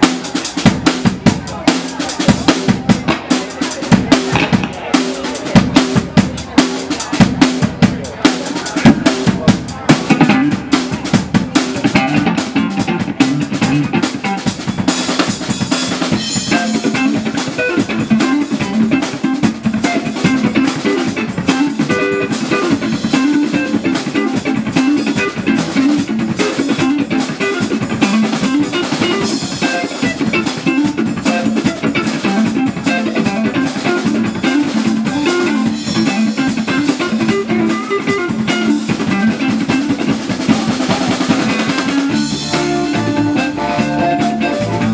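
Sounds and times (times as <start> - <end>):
bass guitar: 0.0 - 44.9
drum kit: 0.0 - 44.9
electric guitar: 0.0 - 44.9.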